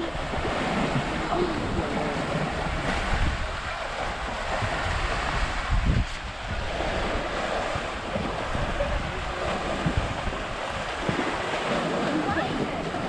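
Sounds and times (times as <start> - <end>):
water rushing: 0.0 - 13.0
wind buffeting microphone: 0.0 - 13.0.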